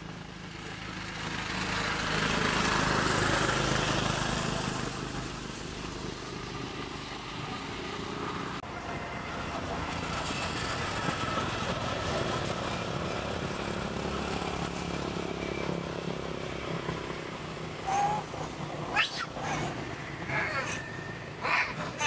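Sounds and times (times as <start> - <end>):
motor traffic rumble: 0.0 - 22.0.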